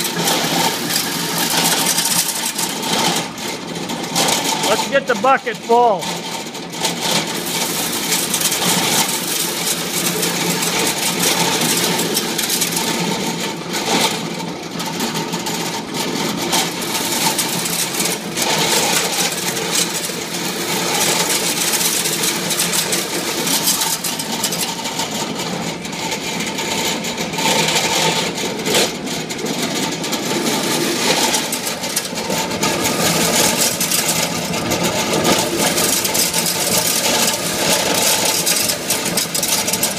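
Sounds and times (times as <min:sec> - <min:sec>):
corn kernels clattering into bucket: 0:00.0 - 0:14.2, 0:14.9 - 0:39.9
corn sheller running: 0:00.0 - 0:39.9.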